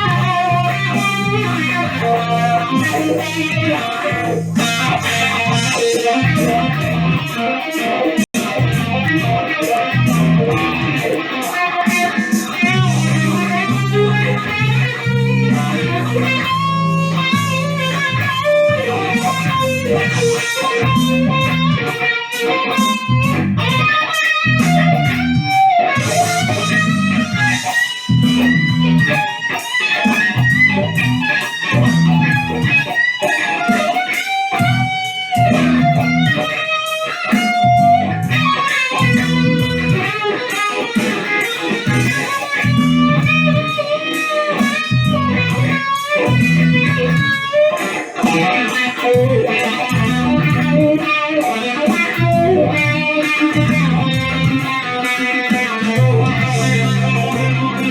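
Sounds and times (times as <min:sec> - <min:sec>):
electric guitar with wah pedal: 0:00.0 - 0:57.9.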